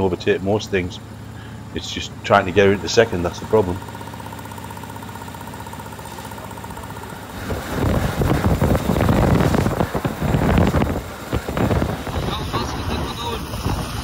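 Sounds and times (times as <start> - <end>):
old car engine running: 0.0 - 14.0.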